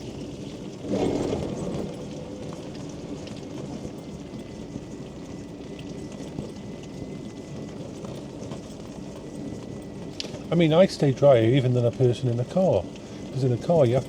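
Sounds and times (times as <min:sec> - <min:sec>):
mobility scooter running: 0:00.0 - 0:14.0
rain patter on canopy: 0:00.0 - 0:14.0.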